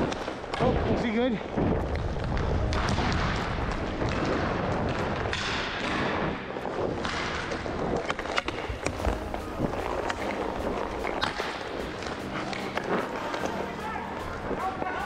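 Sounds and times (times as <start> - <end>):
skates rolling on plastic tiles: 0.0 - 15.0.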